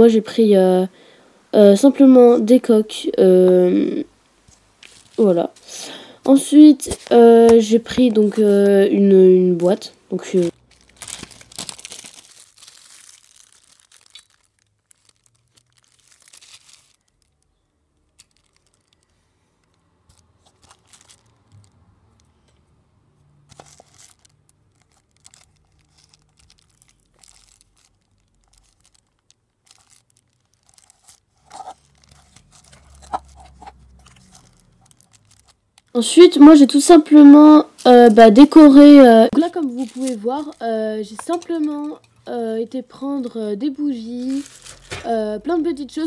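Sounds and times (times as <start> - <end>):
craft materials crinkling: 4.5 - 22.3, 23.4 - 46.0.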